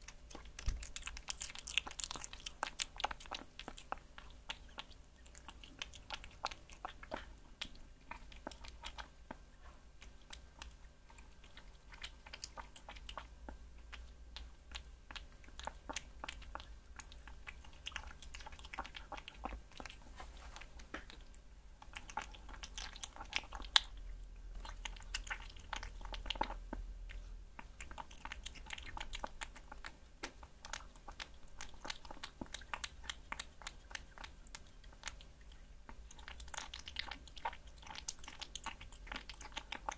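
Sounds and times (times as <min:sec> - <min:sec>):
kitten chewing and licking: 0:00.0 - 0:39.9.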